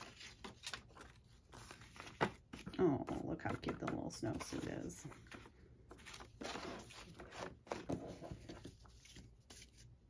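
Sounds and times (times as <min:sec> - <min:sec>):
paper rustling and tapping: 0:00.0 - 0:09.9.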